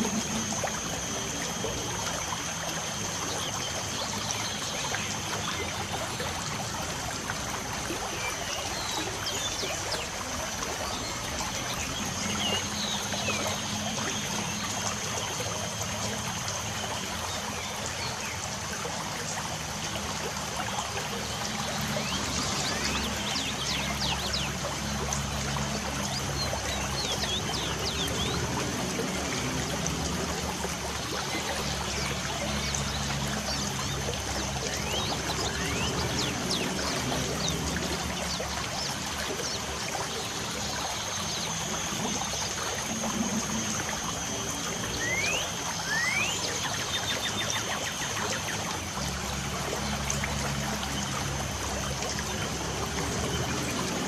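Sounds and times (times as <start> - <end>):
light rain trickling and pattering: 0.0 - 54.0.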